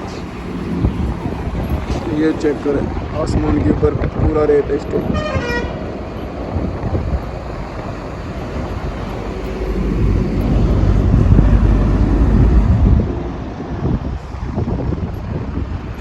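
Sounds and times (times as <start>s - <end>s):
strong wind rumbling on microphone: 0.0s - 16.0s.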